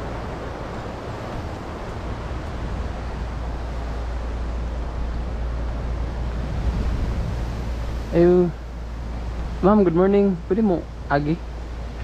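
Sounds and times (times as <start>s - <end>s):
sea surf breaking: 0.0s - 12.0s
wind noise on microphone: 0.0s - 12.0s.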